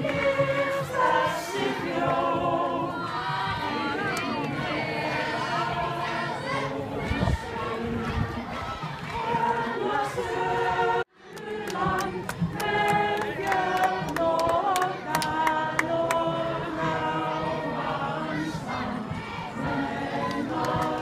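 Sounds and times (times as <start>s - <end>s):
choir singing unaccompanied: 0.0s - 21.0s.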